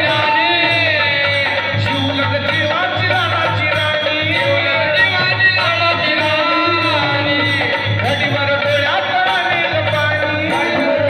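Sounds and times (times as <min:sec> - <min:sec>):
harmonium: 0:00.0 - 0:11.0
man singing: 0:00.0 - 0:11.0.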